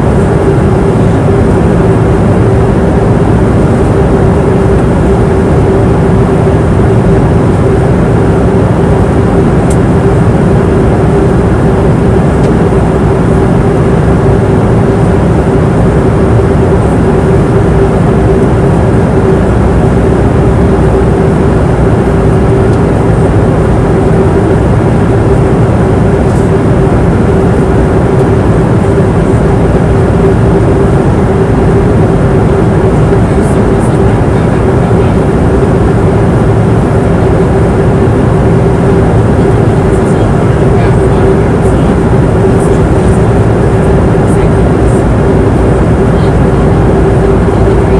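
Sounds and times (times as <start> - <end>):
airliner cabin engine and airflow rush: 0.0 - 47.9
constant hum: 0.0 - 47.9.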